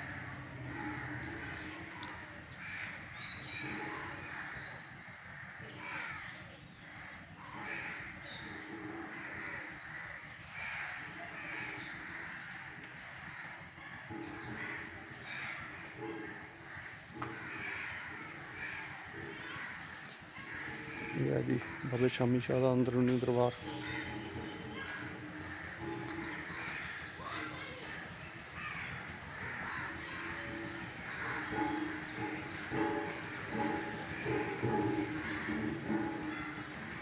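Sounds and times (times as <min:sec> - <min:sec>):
crows cawing: 0:00.0 - 0:37.0.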